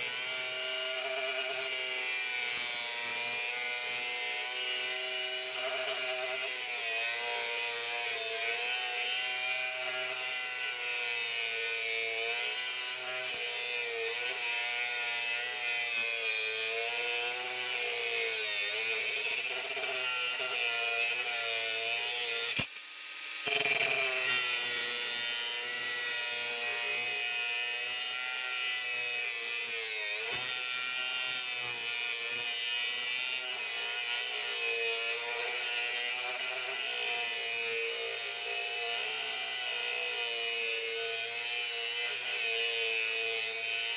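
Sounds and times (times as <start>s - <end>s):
angle grinder grinding: 0.0s - 43.9s.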